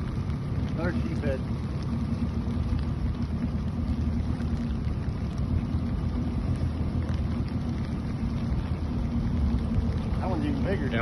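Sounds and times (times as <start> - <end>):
boat motor humming: 0.0 - 11.0
light rain ticking: 0.0 - 11.0.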